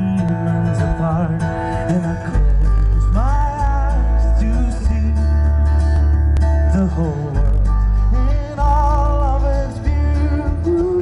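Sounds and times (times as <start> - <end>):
person singing: 0.0 - 5.8, 6.5 - 11.0
heavy bass: 0.0 - 11.0
keyboards: 0.0 - 11.0
strummed acoustic guitar: 0.0 - 11.0.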